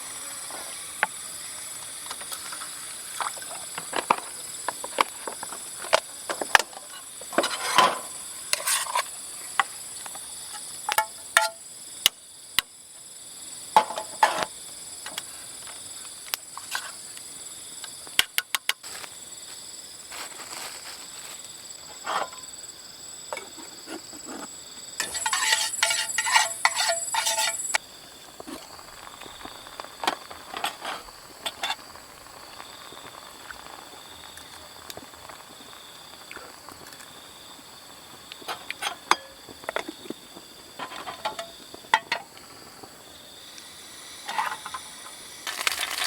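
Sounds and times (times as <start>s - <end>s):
forest insects chorus: 0.0s - 46.0s.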